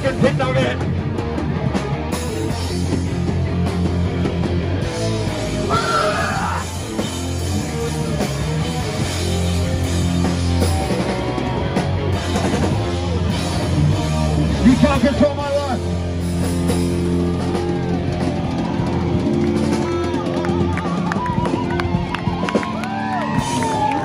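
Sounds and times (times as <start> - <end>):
bass: 0.0 - 24.0
distorted guitars: 0.0 - 24.0
drums: 0.0 - 24.0.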